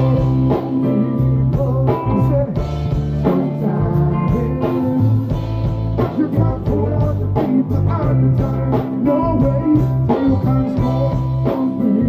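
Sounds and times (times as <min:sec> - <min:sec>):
reggae band playing: 0:00.0 - 0:12.0.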